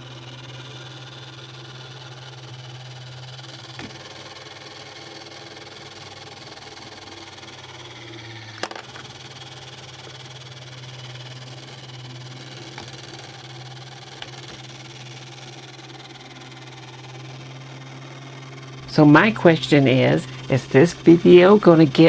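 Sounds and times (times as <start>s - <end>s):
toy robot arm motor whirring: 0.0s - 22.0s.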